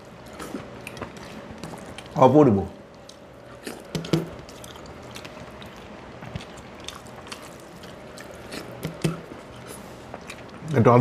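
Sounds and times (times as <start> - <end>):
chewing and mouth sounds: 0.2 - 2.2, 2.9 - 10.8.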